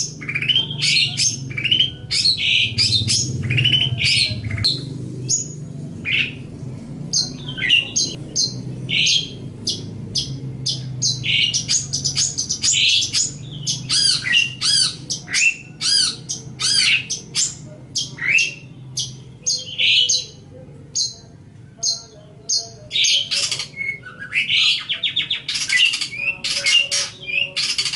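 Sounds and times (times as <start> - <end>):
steady low hum: 0.0 - 27.6
shrike singing: 0.0 - 27.9.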